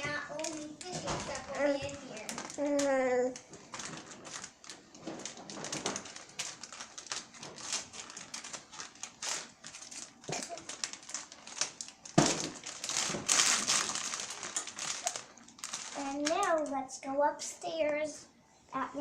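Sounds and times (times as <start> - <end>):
plastic crackling and crinkling: 0.0 - 16.9
scissors cutting plastic packaging: 0.3 - 16.7.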